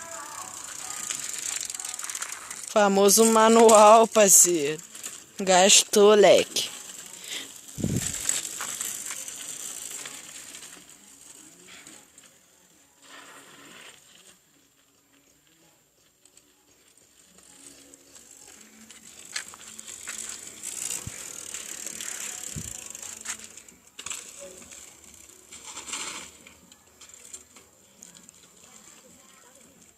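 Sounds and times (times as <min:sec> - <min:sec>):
bicycle riding over forest ground: 0:00.0 - 0:29.9.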